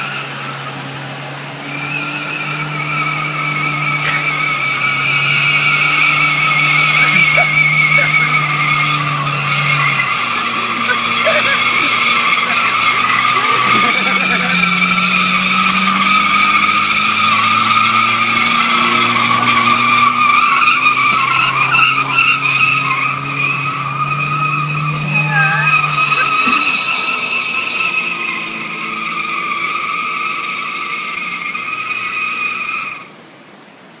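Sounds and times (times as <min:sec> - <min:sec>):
high-pitched squeal: 0:00.0 - 0:33.1
engine labouring under load: 0:00.0 - 0:34.0.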